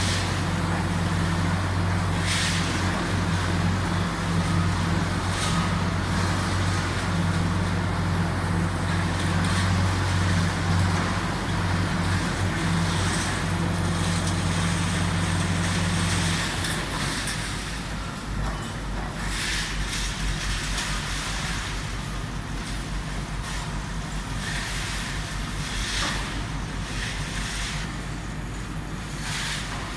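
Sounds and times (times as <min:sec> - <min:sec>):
heavy vehicle engine running: 0:00.0 - 0:29.9.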